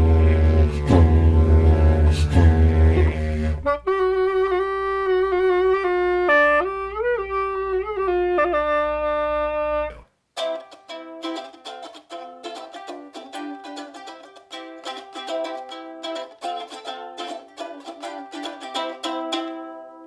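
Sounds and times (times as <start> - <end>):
plucked string instrument: 0.0 - 8.6, 9.2 - 20.0
wind instrument melody: 0.0 - 20.0.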